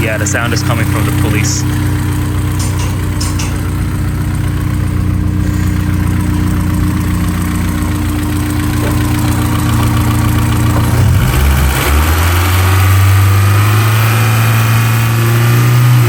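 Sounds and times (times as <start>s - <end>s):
car engine idling: 0.0s - 15.1s.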